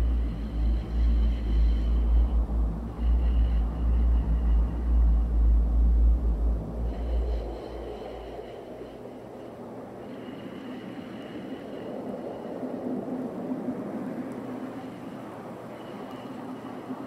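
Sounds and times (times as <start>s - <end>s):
deep rumbling drone: 0.0s - 17.0s
faint steady high tones: 0.0s - 17.0s.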